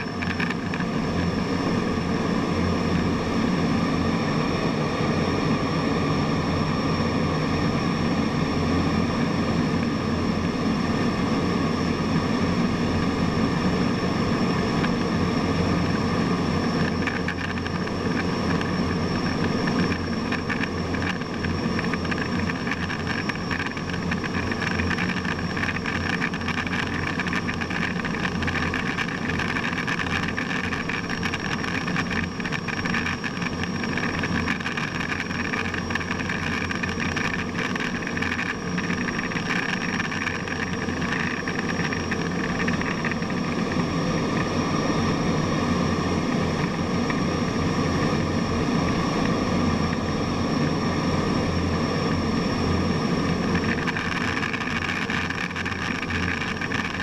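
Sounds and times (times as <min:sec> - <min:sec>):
high whine: 0:00.0 - 0:57.0
jet engine and airflow rush: 0:00.0 - 0:57.0.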